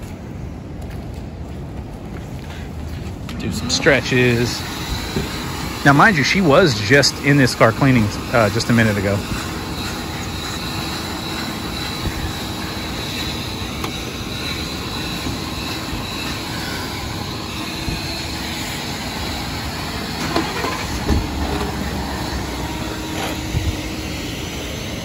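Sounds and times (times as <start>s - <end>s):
shop vacuum running with whine: 3.2s - 25.0s.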